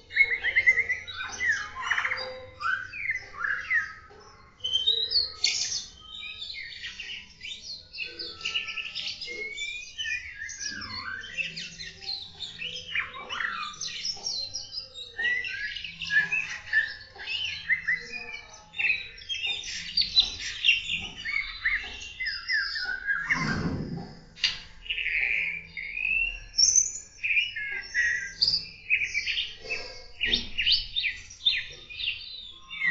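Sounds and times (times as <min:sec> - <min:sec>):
birds chirping and singing: 0:00.0 - 0:32.9.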